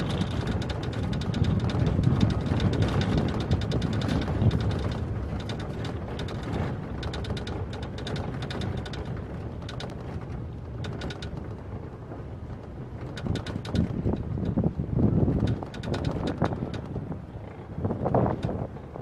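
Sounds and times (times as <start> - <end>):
small clicks and rattles: 0.0 - 19.0
wind buffeting: 0.0 - 19.0.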